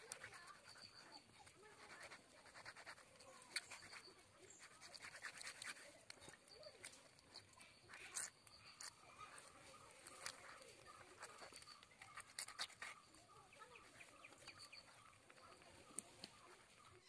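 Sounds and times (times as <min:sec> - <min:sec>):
knife scraping fish scales: 0:00.0 - 0:15.6.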